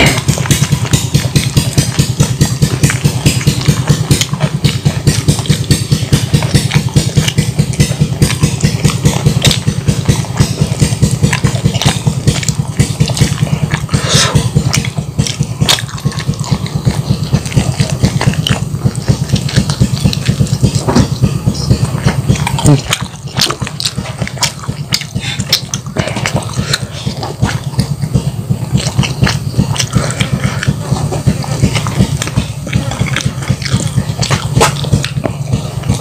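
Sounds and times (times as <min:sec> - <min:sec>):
eating clicks and smacks: 0:00.0 - 0:36.0
small engine idling: 0:00.0 - 0:36.0.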